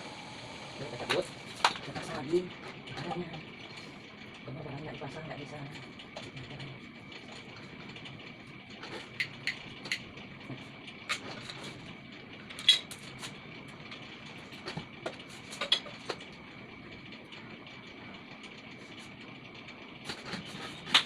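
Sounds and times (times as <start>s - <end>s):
steady hum with high tone: 0.0s - 21.0s.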